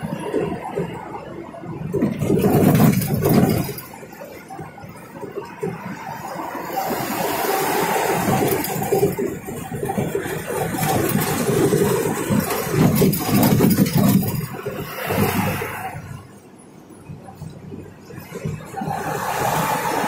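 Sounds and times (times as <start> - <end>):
truck engines and tyres: 0.0 - 20.0.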